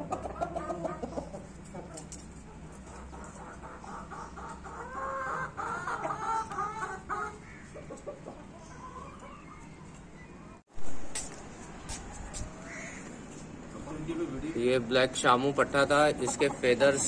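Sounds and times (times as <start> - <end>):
chickens clucking: 0.0 - 10.4, 11.8 - 17.0.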